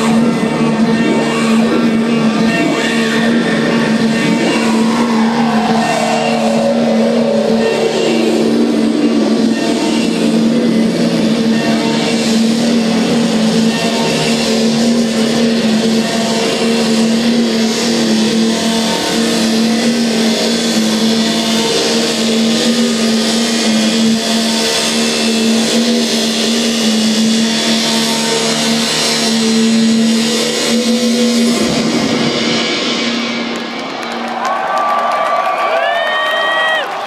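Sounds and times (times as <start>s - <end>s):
sustained synth drone: 0.0s - 34.0s
loud electronic dance music: 0.0s - 37.0s.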